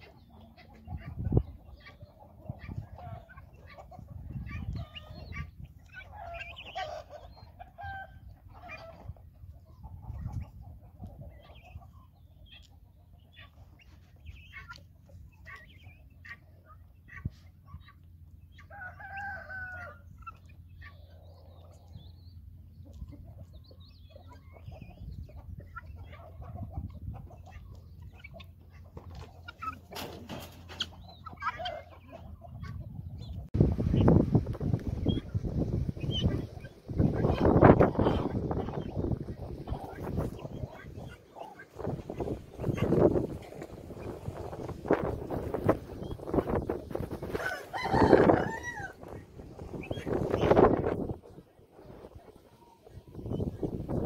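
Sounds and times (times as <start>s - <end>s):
fowl calling and clucking: 0.0s - 54.0s.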